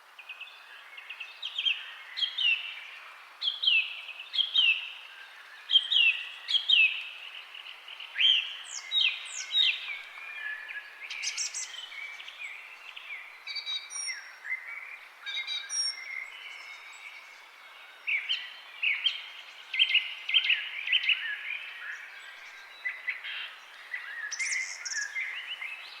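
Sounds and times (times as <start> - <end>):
background hiss: 0.0 - 26.0
songbirds chirping and whistling: 0.2 - 26.0.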